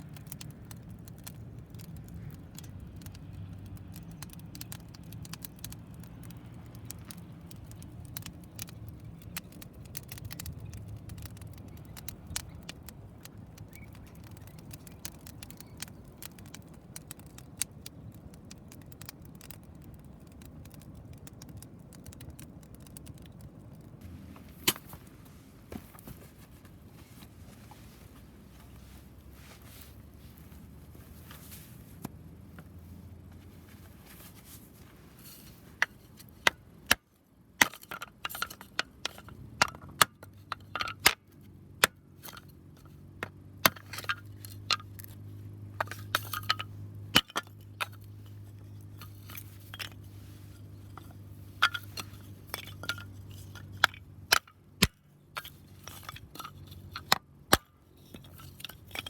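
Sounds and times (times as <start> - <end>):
low steady rumble: 0.0 - 59.0
wood fire crackling and popping: 0.0 - 59.0.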